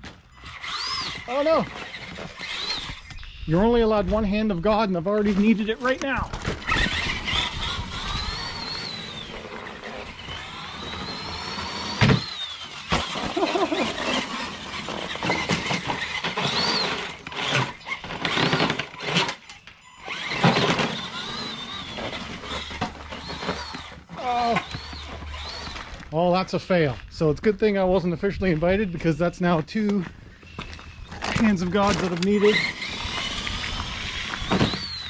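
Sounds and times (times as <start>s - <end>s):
electric motor whining: 0.0s - 26.1s, 30.4s - 35.0s
tyres crunching on gravel: 0.0s - 35.0s.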